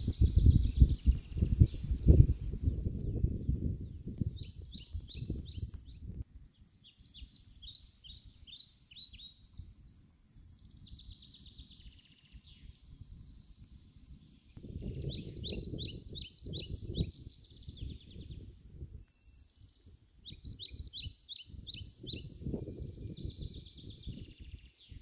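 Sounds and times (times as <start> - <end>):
songbird chirping: 0.0 - 25.0
wind rumble on microphone: 0.0 - 25.0.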